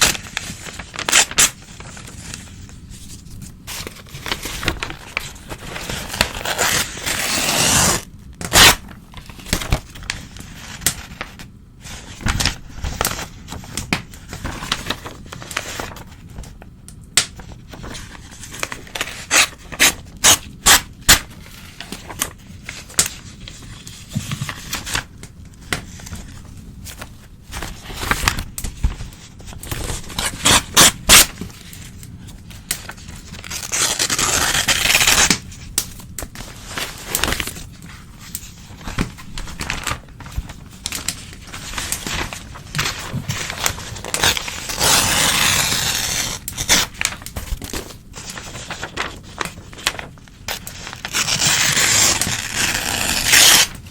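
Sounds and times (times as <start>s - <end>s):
newspaper tearing: 0.0s - 13.6s, 17.4s - 25.1s, 29.1s - 35.4s, 36.4s - 53.9s.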